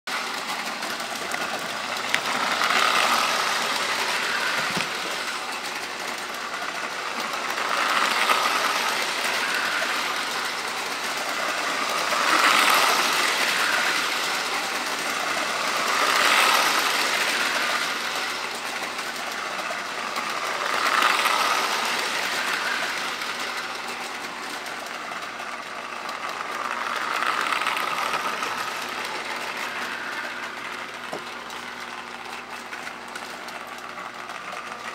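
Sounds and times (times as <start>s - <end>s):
toy train rattling on track: 0.1s - 34.9s.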